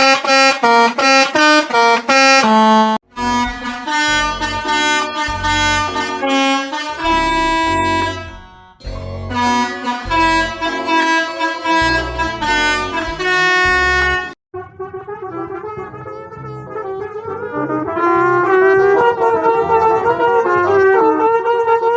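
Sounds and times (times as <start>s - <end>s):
bus horn tune: 0.0s - 21.9s
low thudding beat: 3.0s - 21.1s.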